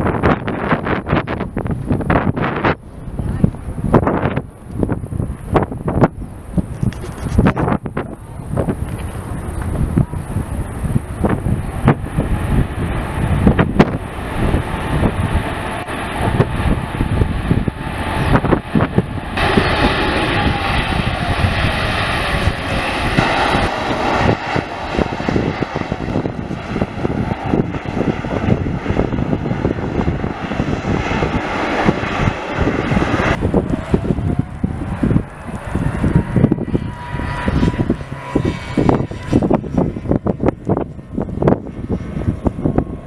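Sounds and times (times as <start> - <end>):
falling engine whine: 0.0 - 43.0
jet engines roaring: 0.0 - 43.0
wind buffeting microphone: 0.0 - 43.0.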